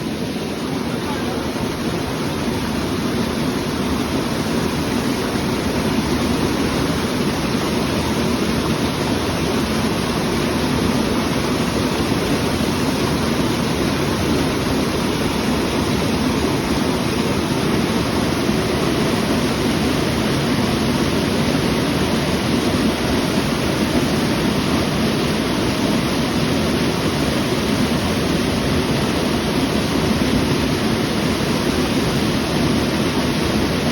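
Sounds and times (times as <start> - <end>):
water rushing over stones: 0.0 - 33.9.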